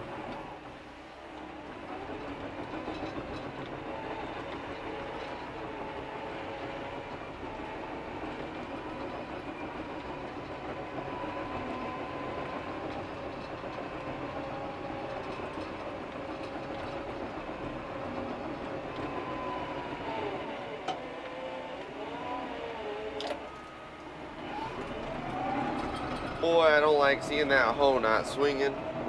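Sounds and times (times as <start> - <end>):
dozer engine and hydraulics: 0.0 - 29.0
wavering whine: 4.2 - 29.0.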